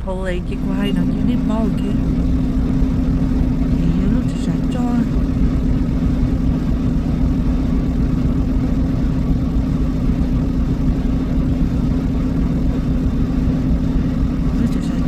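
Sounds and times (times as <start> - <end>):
road noise inside cab: 0.0 - 15.0
truck engine droning: 0.0 - 15.0.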